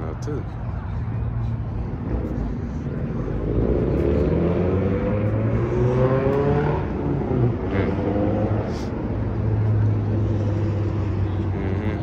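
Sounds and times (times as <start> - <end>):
car engine accelerating: 1.4 - 12.0.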